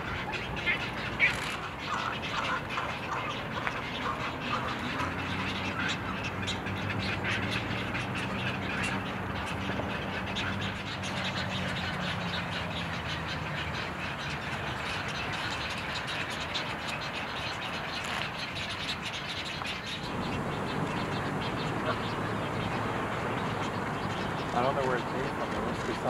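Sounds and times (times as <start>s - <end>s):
harsh bird calls and clicks: 0.0s - 26.0s.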